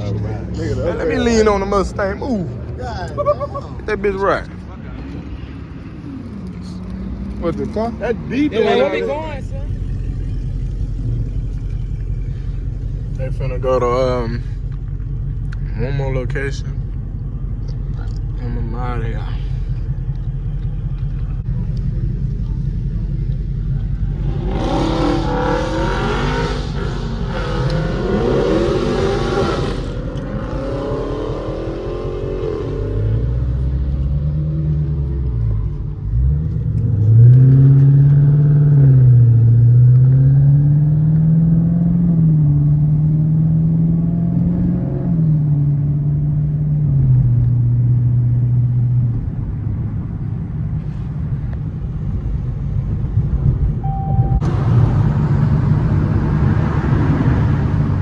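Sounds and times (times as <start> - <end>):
car engine accelerating and shifting: 0.0 - 58.0.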